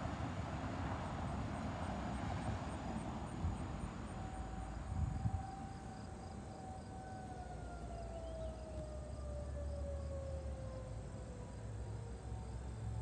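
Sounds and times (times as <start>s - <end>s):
faint warning siren: 0.0s - 13.0s.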